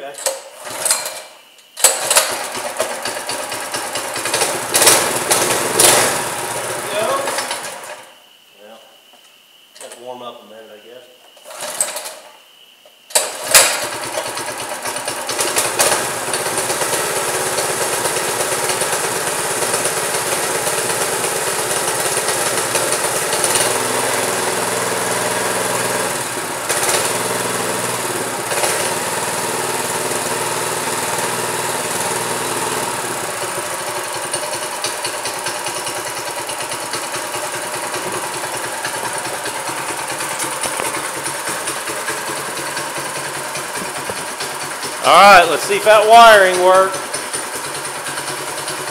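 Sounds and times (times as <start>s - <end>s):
engine pull-started: 0.2s - 8.1s, 13.1s - 48.9s
small engine idling: 1.8s - 8.1s, 13.2s - 48.9s.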